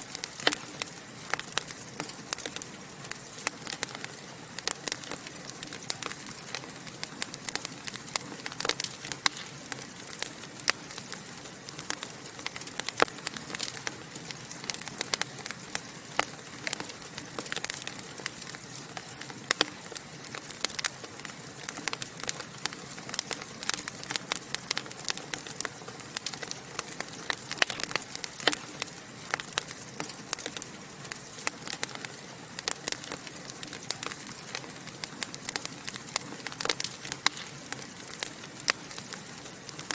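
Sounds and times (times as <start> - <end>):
soft fire hiss: 0.0 - 39.9
wood fire crackling and popping: 0.0 - 39.9.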